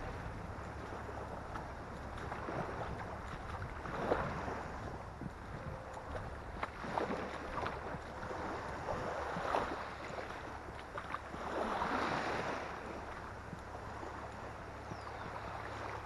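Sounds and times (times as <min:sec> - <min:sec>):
water sloshing around wading legs: 0:00.0 - 0:16.0
wind rumble on microphone: 0:00.0 - 0:16.0.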